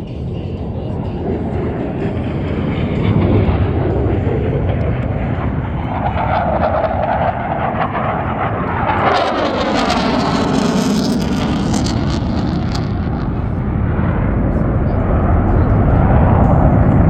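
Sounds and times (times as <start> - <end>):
jet engines flying past: 0.0 - 17.0.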